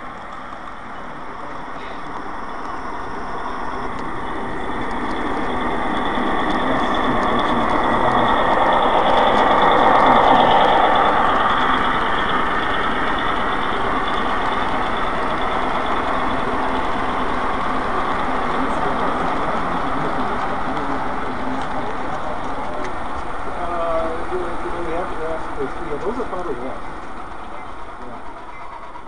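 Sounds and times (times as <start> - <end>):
model train rolling: 0.0 - 29.0.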